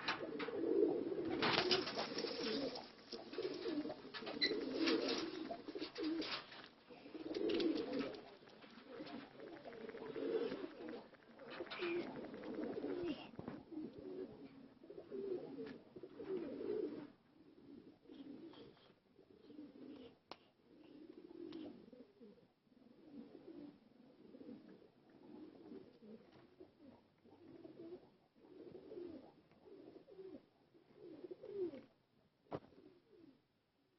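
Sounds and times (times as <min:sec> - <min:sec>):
pigeons cooing: 0:00.0 - 0:31.9.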